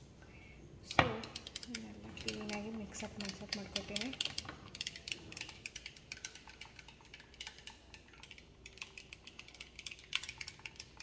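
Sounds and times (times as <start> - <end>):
stirrer clinking against glass: 1.3 - 11.0.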